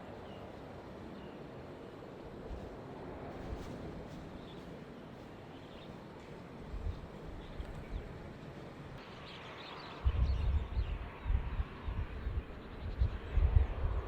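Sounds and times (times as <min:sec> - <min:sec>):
wind buffeting microphone: 0:02.1 - 0:14.0.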